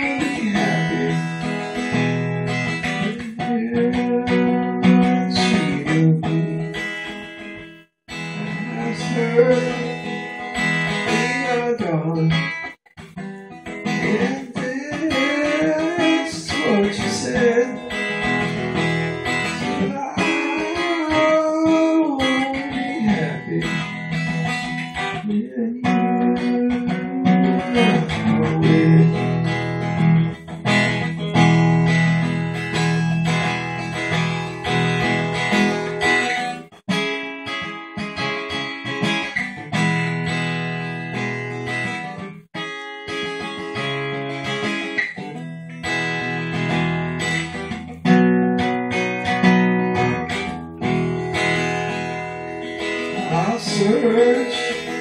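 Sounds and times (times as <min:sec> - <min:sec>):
acoustic guitar: 0:00.0 - 0:55.0.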